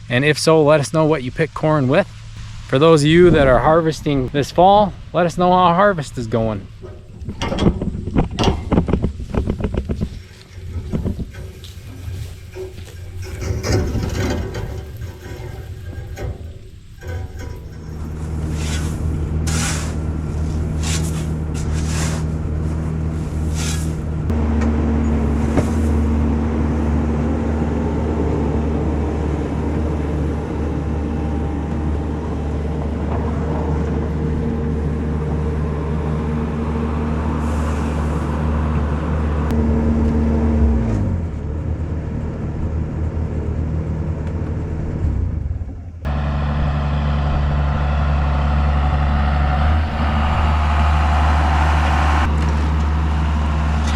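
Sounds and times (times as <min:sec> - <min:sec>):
tractor engine running: 0:01.5 - 0:53.9.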